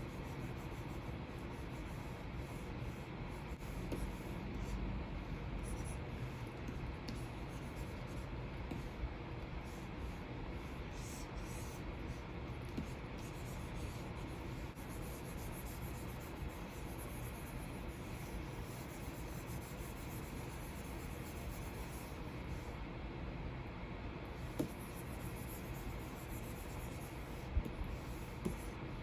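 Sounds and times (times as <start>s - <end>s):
stylus scratching on screen: 0.0s - 22.7s, 24.4s - 29.0s.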